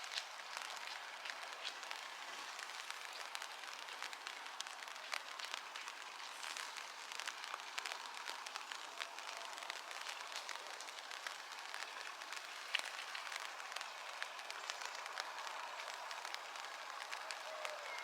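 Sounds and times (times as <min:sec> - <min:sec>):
rain patter: 0:00.0 - 0:18.0.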